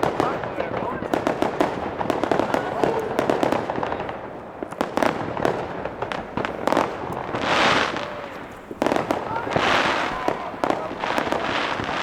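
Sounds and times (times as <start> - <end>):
firework bangs and crackles: 0.0 - 12.0.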